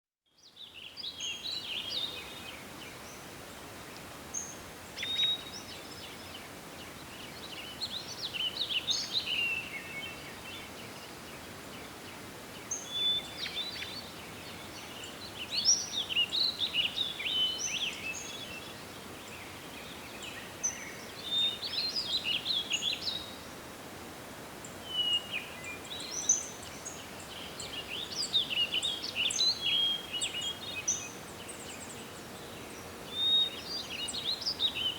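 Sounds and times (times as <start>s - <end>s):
songbirds singing: 0.4s - 23.6s, 24.6s - 34.9s.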